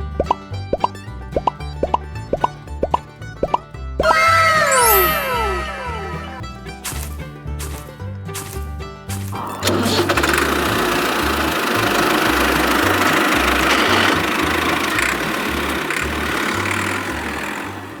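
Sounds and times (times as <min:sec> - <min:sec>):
background music with bass: 0:00.0 - 0:18.0
rattling engine running: 0:00.0 - 0:18.0.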